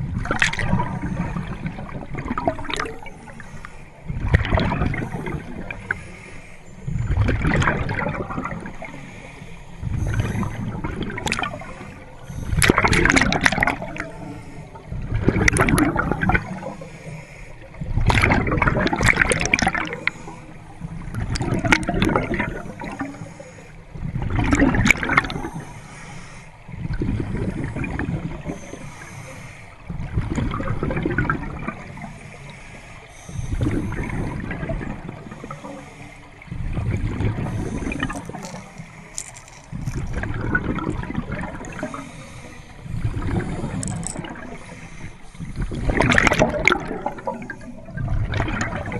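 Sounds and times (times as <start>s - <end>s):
exhaled bubbles gurgling underwater: 0.0s - 48.9s
underwater water noise: 0.0s - 48.9s.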